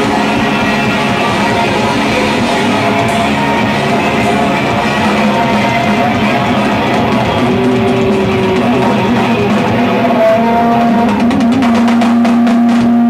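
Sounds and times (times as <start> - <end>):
bass guitar: 0.0 - 13.0
drum kit: 0.0 - 13.0
electric guitars: 0.0 - 13.0
rock band playing live: 0.0 - 13.0.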